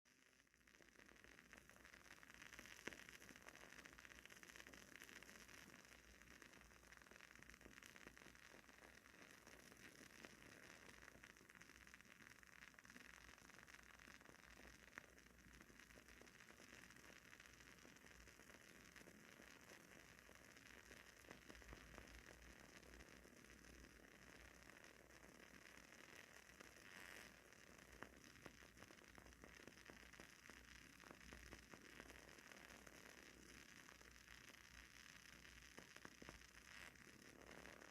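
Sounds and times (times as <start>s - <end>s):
candle wick crackling and popping: 0.1s - 37.9s.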